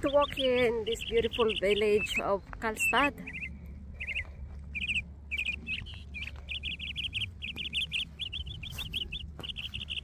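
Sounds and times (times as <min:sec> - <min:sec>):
low rumble: 0:00.0 - 0:10.0
songbird chirping: 0:00.0 - 0:10.0.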